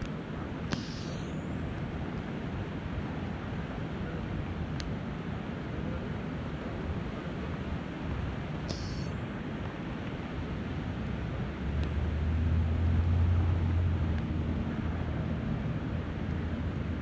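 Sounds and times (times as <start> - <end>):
rain: 1.5 - 17.0.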